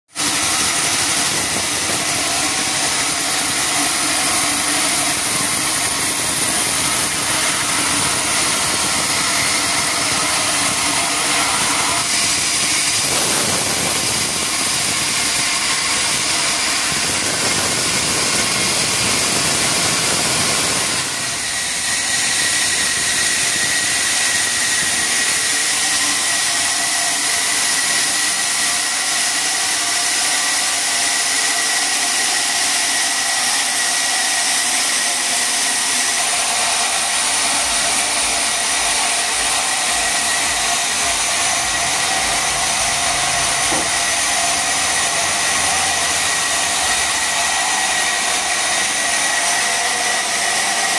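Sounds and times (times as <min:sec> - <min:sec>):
sawmill machinery running: 0:00.1 - 0:50.9
high-pitched whine: 0:00.2 - 0:27.7, 0:36.1 - 0:50.4.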